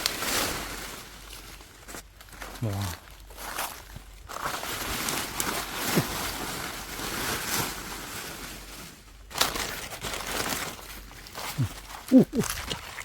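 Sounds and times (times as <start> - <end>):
dry plant debris rustling: 0.0 - 13.0.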